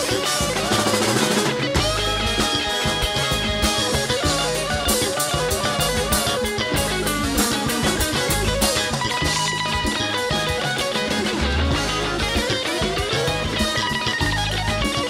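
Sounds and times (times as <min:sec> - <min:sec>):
bass: 0:00.0 - 0:15.0
drums: 0:00.0 - 0:15.0
electric guitar lead: 0:00.0 - 0:15.0.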